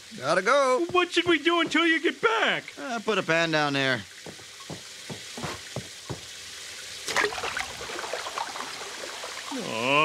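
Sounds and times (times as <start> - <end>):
water dripping: 0.0 - 10.0
water gushing and spraying: 0.0 - 10.0.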